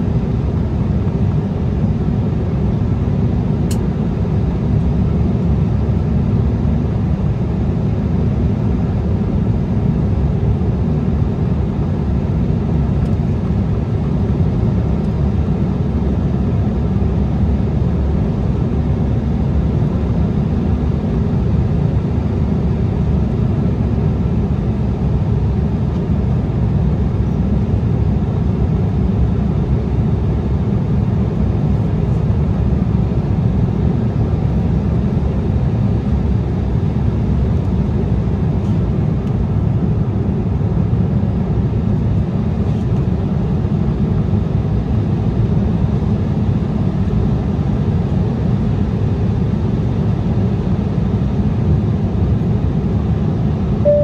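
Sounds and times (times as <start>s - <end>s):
jet engine rumble: 0.0s - 54.0s.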